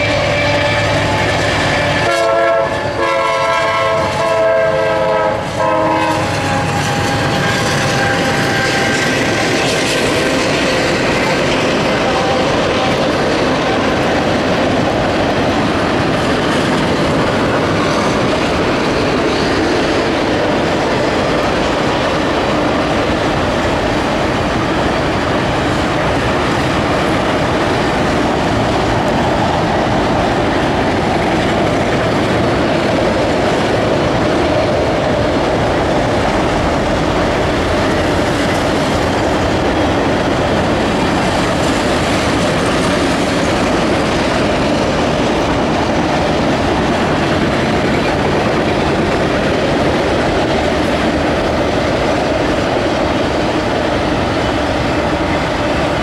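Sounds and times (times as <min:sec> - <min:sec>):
steel train wheels on rails: 0:00.0 - 0:56.0.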